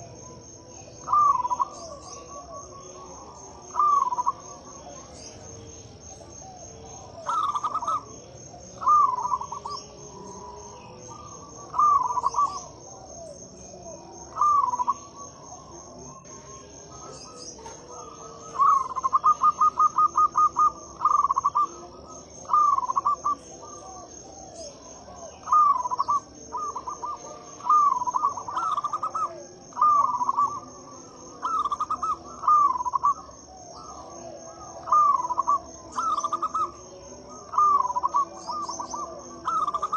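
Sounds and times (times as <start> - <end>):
dove cooing: 0.0 - 39.9
insect trill: 0.0 - 39.9.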